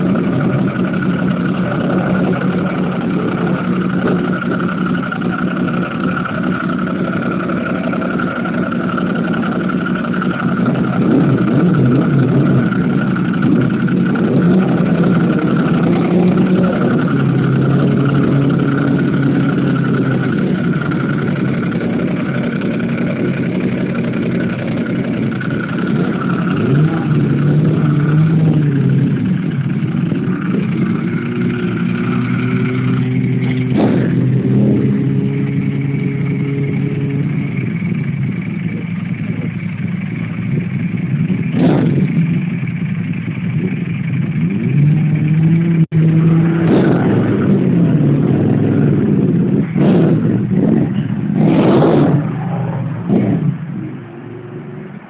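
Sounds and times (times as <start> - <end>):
motorcycle engine revs: 0.0 - 55.0
motorcycles idling: 0.0 - 55.0.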